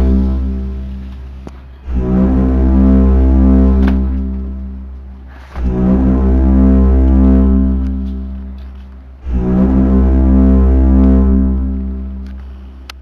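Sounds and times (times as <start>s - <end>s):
deep trumpet-like drone: 0.0s - 13.0s.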